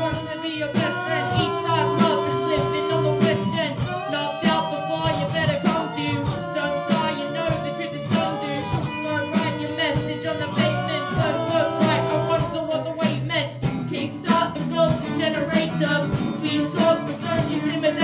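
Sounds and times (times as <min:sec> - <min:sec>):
bass guitar: 0:00.0 - 0:18.0
electric guitar: 0:00.0 - 0:18.0
person singing: 0:00.0 - 0:18.0
steady drum beat: 0:00.0 - 0:18.0.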